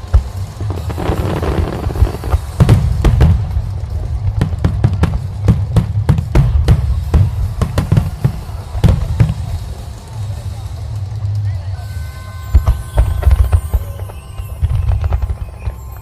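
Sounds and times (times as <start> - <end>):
fireworks bangs: 0.0 - 9.9, 12.4 - 16.0
fireworks crackle: 0.0 - 16.0.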